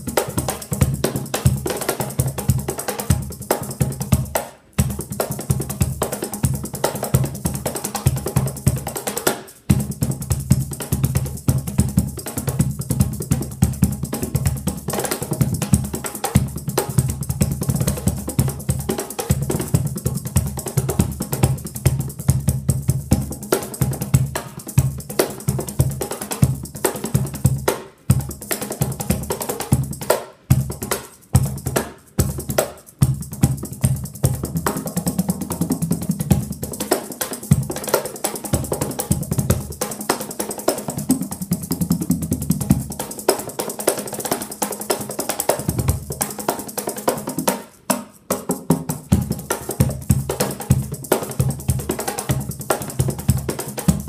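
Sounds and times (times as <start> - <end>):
cajon drumming: 0.0 - 54.0.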